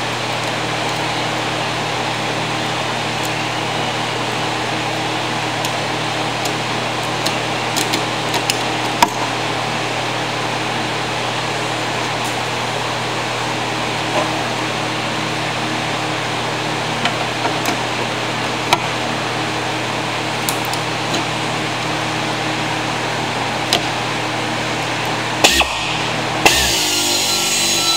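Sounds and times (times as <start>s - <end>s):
machine humming and whirring: 0.0s - 27.9s.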